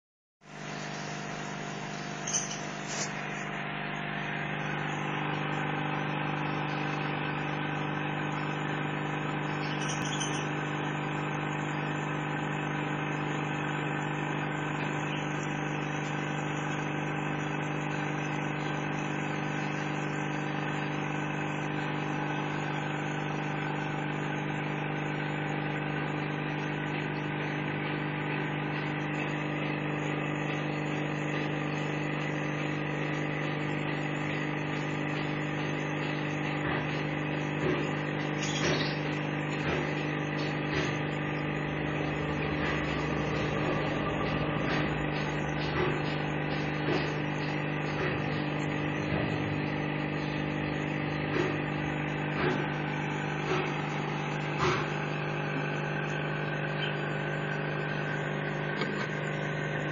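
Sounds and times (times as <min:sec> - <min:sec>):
aquarium pump humming: 0:00.4 - 0:59.9.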